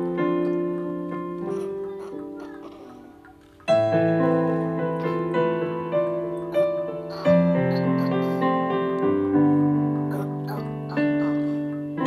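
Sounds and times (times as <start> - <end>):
piano chords and notes: 0.0 - 12.0.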